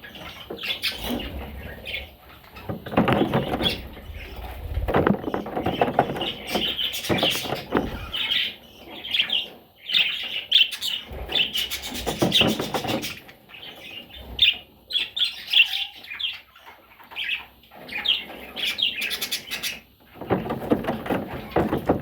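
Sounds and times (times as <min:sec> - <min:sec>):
budgerigars chirping: 0:00.0 - 0:04.5, 0:05.3 - 0:19.9.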